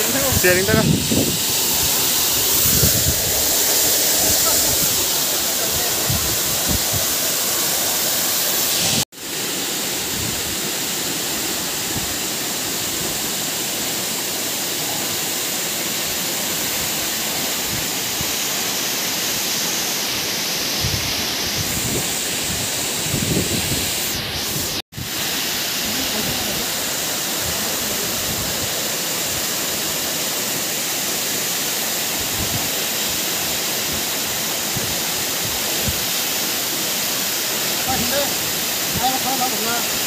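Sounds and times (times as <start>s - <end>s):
waterfall roaring: 0.0s - 40.0s.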